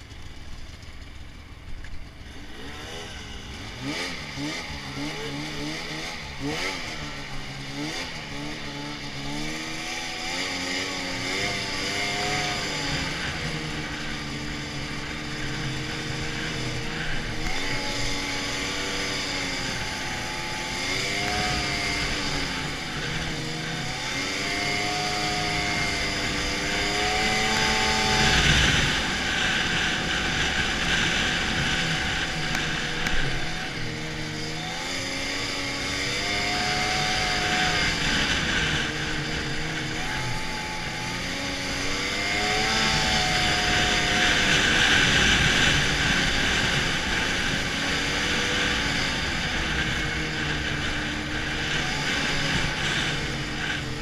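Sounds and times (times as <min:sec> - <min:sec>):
snowmobile engine revving: 0:02.2 - 0:54.0.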